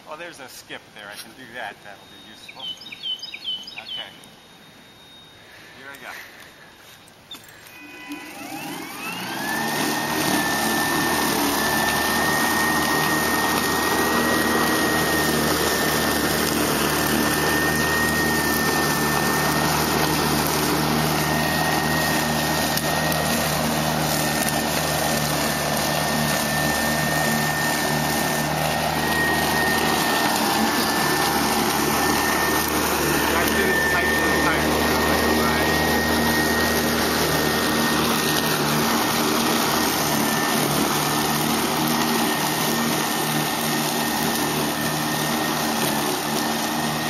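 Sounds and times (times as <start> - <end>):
electric lawnmower whining: 1.1 - 47.0.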